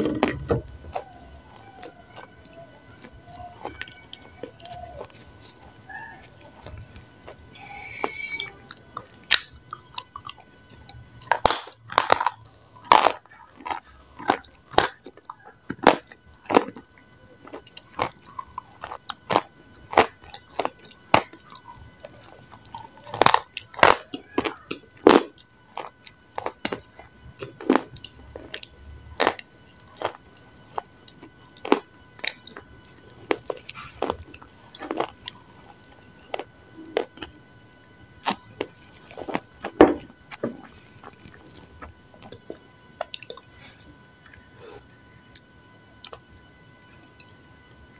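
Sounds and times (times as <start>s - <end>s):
crunching and chewing: 0.0s - 47.9s.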